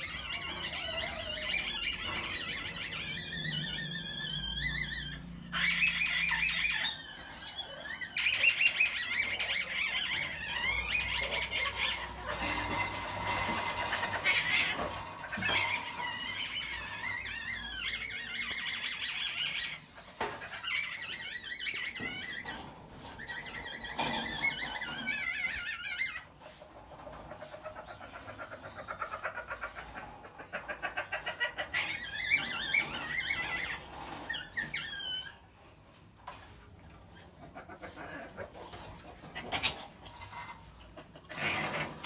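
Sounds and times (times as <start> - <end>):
civets squealing and chirping: 0.0 - 42.0.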